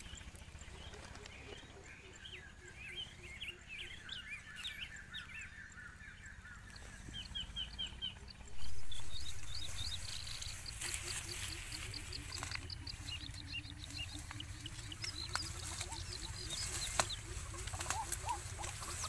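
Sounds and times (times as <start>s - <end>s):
birds chirping: 0.0s - 19.0s
outdoor background noise: 0.0s - 19.0s.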